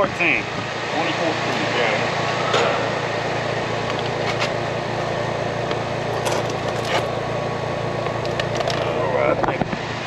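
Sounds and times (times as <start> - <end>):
air conditioning hum: 0.0 - 10.0.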